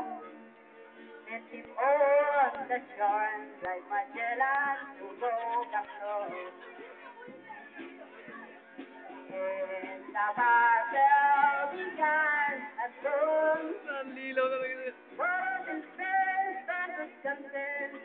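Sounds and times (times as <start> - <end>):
person singing: 1.2 - 7.2, 9.1 - 18.0.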